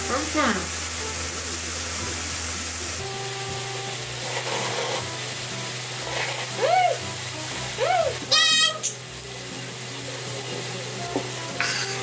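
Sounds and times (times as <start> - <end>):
faint background music: 0.0 - 12.0
food sizzling on a grill: 0.0 - 12.0.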